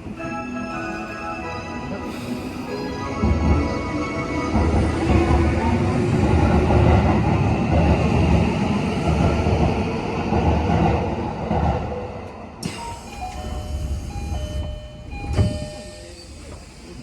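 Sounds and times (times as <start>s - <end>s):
train wheels rumbling on rails: 1.9s - 17.0s.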